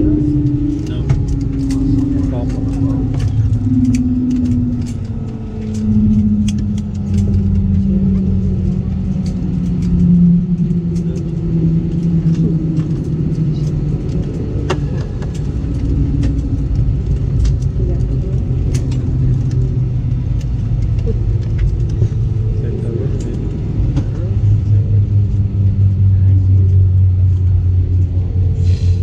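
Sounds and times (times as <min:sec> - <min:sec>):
airliner engines winding down: 0:00.0 - 0:29.0.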